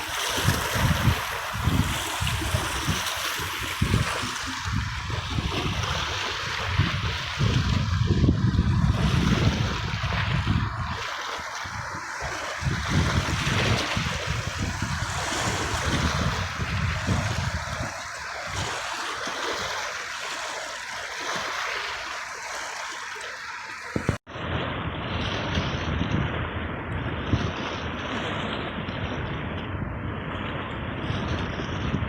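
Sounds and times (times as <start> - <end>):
sea waves washing on shore: 0.0 - 32.0.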